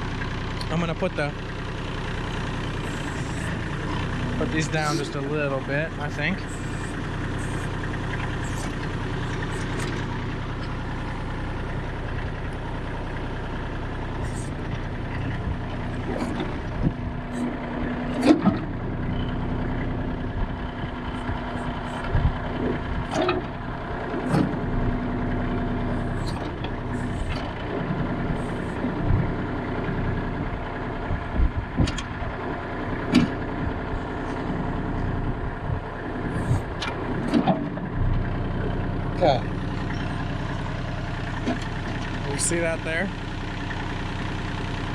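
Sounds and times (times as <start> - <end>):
backhoe hydraulics: 0.0 - 30.3, 31.7 - 44.9
tractor diesel engine running: 0.0 - 44.9.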